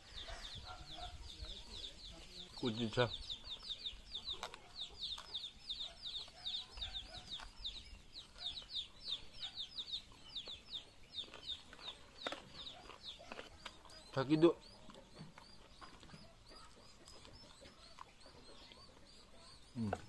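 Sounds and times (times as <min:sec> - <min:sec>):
bird chirping rapidly: 0:00.1 - 0:20.0.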